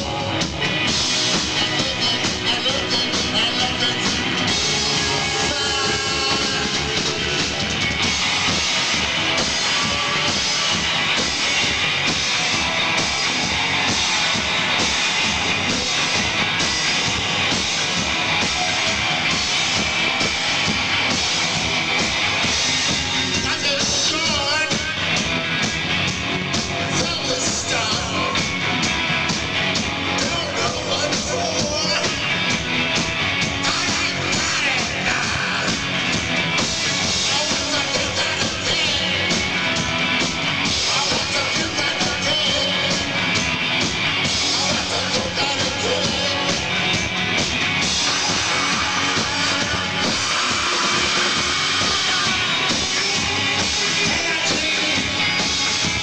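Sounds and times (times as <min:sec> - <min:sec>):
drum kit: 0:00.0 - 0:56.0
guitar: 0:00.0 - 0:56.0
rock band playing live: 0:00.0 - 0:56.0.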